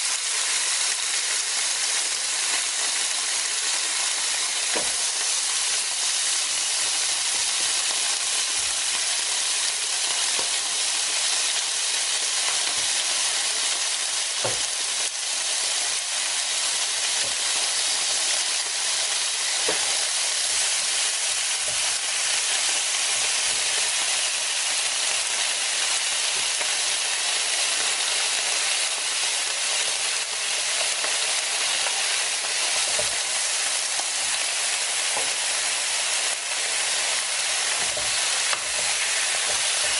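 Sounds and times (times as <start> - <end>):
meat sizzling on a grill plate: 0.0 - 39.9.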